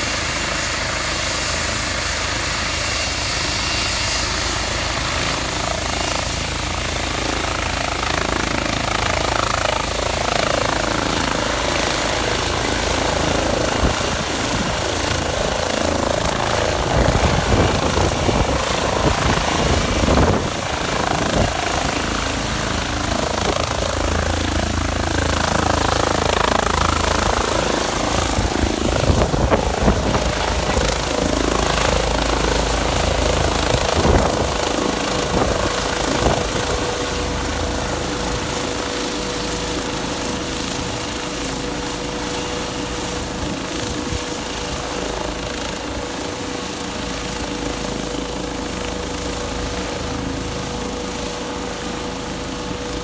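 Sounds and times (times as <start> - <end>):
helicopter rotor and turbine: 0.0 - 53.0
high turbine whine: 0.0 - 53.0.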